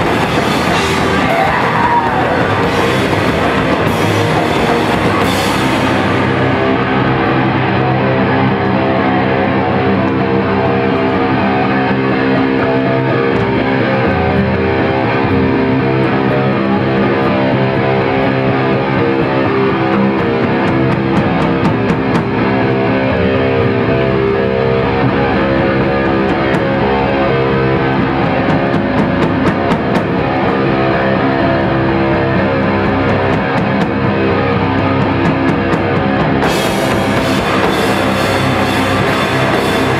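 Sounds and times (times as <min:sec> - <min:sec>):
distorted electric guitar chords: 0:00.0 - 0:39.9
drums: 0:00.0 - 0:39.9.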